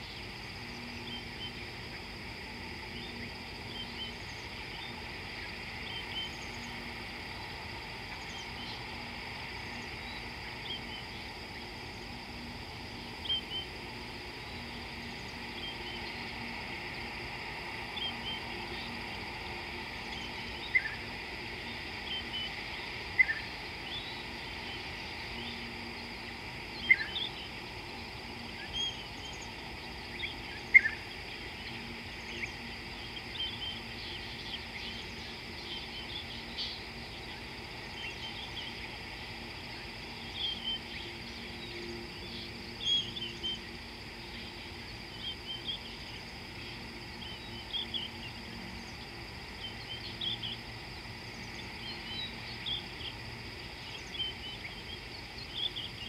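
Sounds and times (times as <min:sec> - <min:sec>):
steady outdoor hiss: 0:00.0 - 0:56.0.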